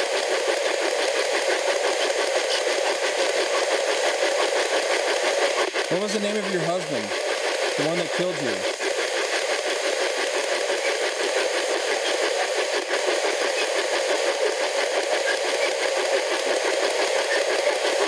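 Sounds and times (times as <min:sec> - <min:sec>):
fast-chopping radio static: 0:00.0 - 0:18.0.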